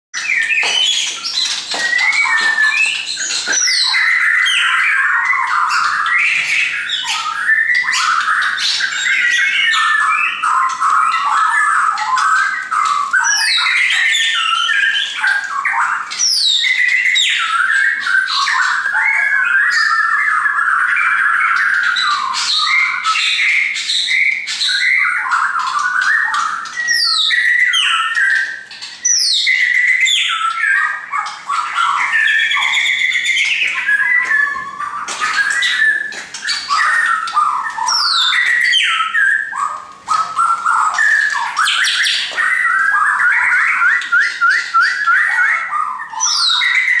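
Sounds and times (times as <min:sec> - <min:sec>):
shamas singing whistles: 0:00.2 - 0:47.0.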